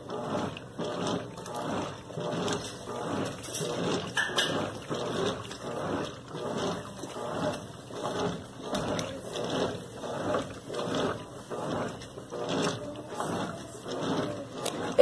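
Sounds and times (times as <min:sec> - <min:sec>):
washing machine sloshing: 0:00.0 - 0:15.0.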